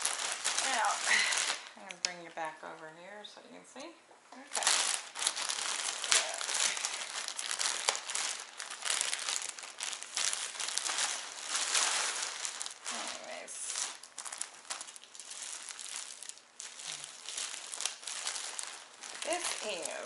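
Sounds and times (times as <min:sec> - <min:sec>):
plastic packaging crinkling: 0:00.0 - 0:03.0, 0:04.4 - 0:20.0.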